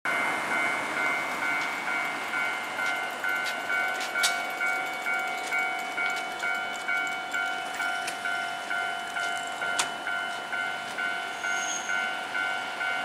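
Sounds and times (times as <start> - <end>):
crossing warning bell dinging: 0.1 - 13.0.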